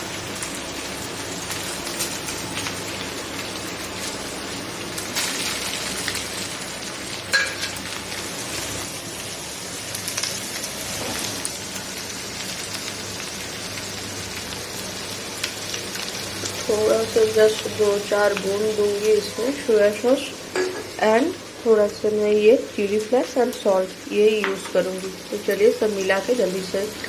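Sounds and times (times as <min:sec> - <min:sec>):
rice sizzling in frying pan: 0:00.0 - 0:27.0.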